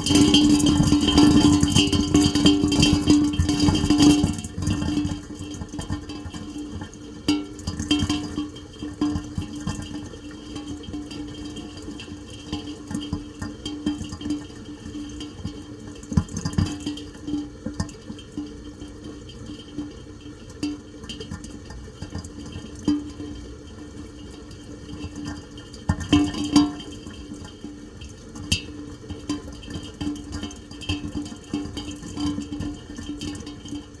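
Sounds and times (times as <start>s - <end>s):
rain: 0.0s - 34.0s.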